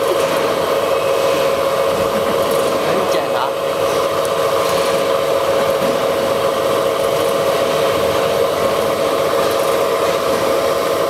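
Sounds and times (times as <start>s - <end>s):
production-line machinery humming: 0.0s - 11.0s.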